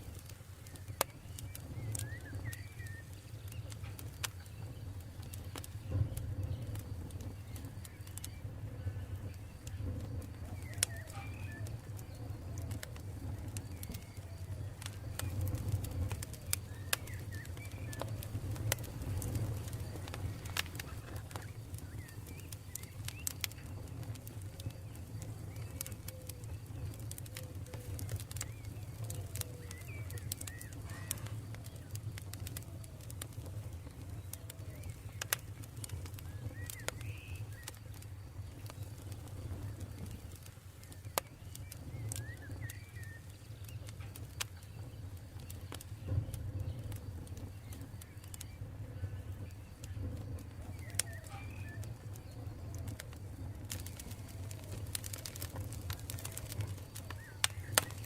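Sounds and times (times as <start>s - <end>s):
campfire crackling and popping: 0.0s - 58.0s
faint birds calling: 0.1s - 58.0s.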